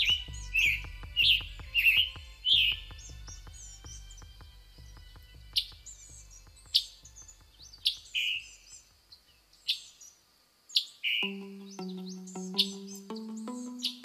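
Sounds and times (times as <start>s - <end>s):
background music with a beat: 0.0s - 8.5s, 11.2s - 14.0s
bird chirping: 0.0s - 14.0s.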